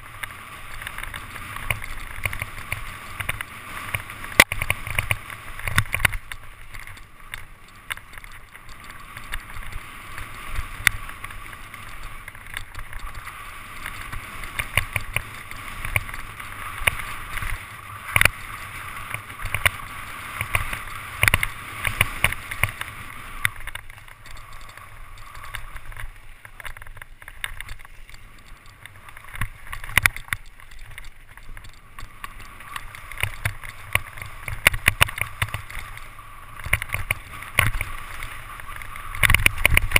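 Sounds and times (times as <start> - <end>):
bike clattering over rough trail: 0.0 - 39.9
tyres rushing on loose dirt: 0.0 - 39.9
wind rumble on microphone: 0.0 - 39.9.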